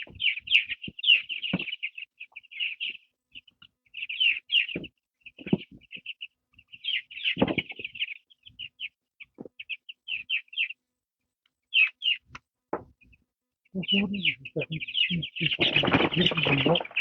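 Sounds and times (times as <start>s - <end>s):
chickens peeping: 0.0s - 10.8s, 11.7s - 13.2s, 13.8s - 17.0s.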